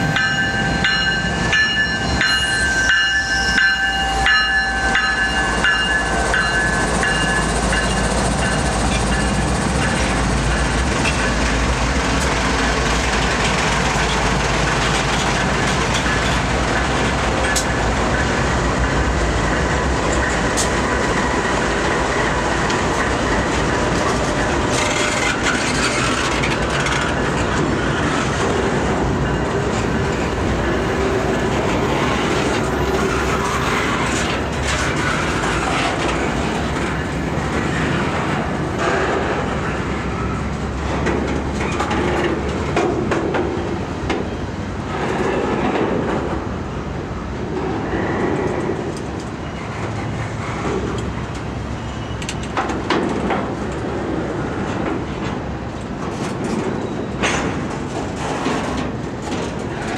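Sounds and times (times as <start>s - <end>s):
diesel locomotive engine: 0.0s - 59.9s
steel wheels on rails: 0.0s - 59.9s.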